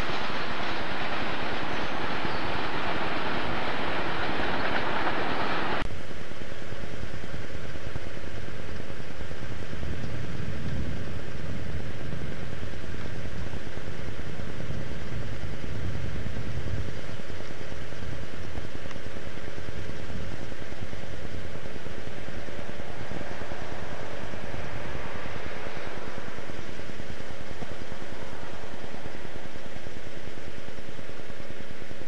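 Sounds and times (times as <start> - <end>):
distant diesel locomotives rumbling: 0.0 - 32.0
passing train: 0.0 - 32.0.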